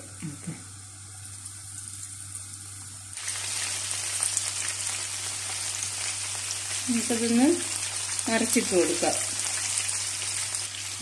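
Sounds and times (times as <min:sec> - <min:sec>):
chicken frying in hot oil: 0:01.0 - 0:11.0.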